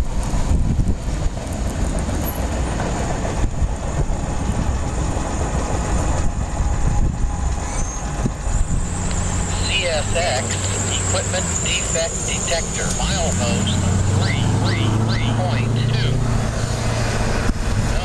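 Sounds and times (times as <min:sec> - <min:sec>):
freight train rolling on track: 0:00.0 - 0:18.0.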